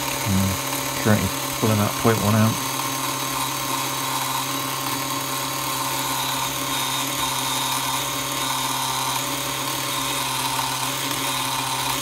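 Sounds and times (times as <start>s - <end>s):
geared motor whining: 0.0s - 12.0s.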